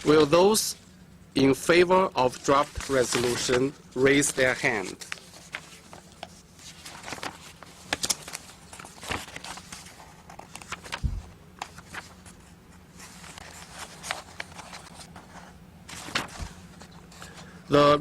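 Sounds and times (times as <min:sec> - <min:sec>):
rustling: 0:02.4 - 0:17.4.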